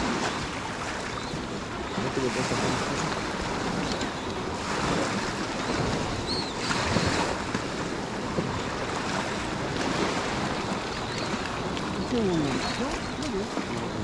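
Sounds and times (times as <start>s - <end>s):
waves washing onto shingle: 0.0s - 14.0s
wind buffeting microphone: 0.0s - 14.0s.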